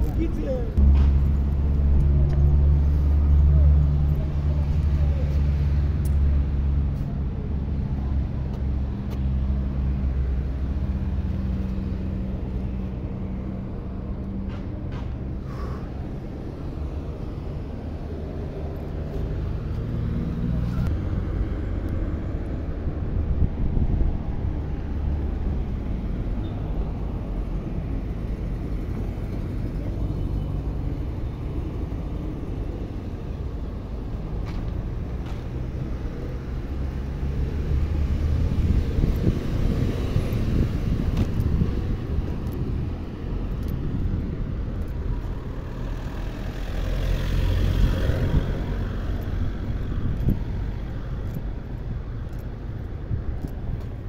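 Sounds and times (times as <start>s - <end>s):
cars passing by: 0.0s - 54.0s
road traffic rumble: 0.0s - 54.0s.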